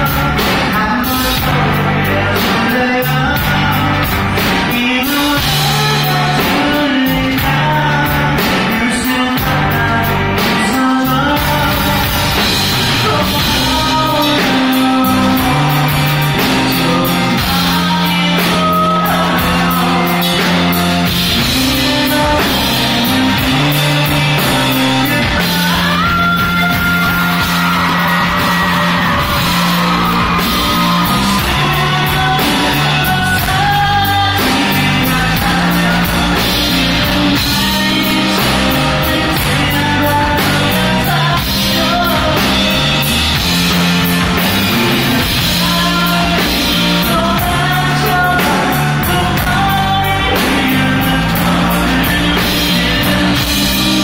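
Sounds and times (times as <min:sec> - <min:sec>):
live rock band: 0:00.0 - 0:54.0
man singing lead: 0:00.0 - 0:54.0.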